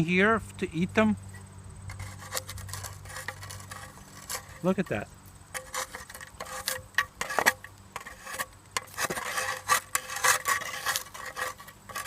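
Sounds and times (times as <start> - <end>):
scraping and rubbing: 1.3 - 12.0.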